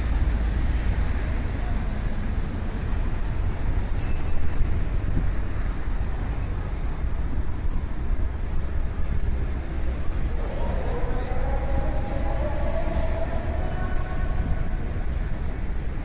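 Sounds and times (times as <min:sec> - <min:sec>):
cars passing: 0:00.0 - 0:16.0
low traffic rumble: 0:00.0 - 0:16.0.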